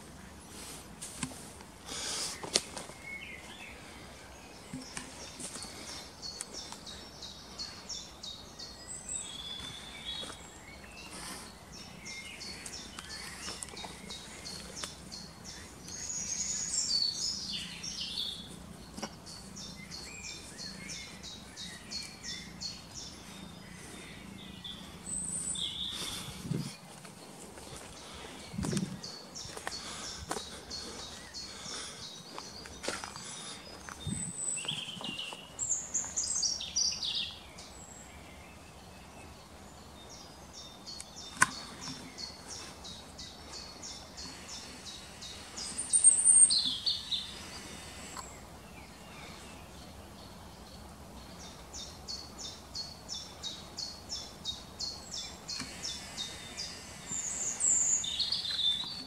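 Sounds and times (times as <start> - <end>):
woodland birds singing: 0.0 - 59.0.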